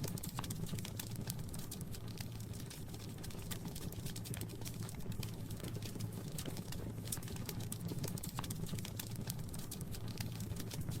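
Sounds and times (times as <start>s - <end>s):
low rumble of flames: 0.0s - 11.0s
wood fire crackling: 0.0s - 11.0s.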